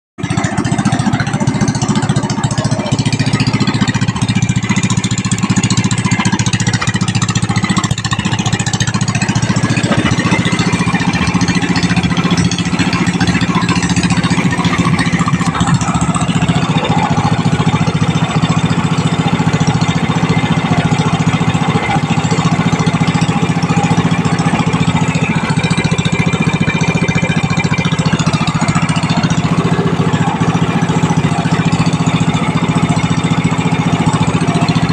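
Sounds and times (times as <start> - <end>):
gas engine running steadily: 0.2 - 34.9.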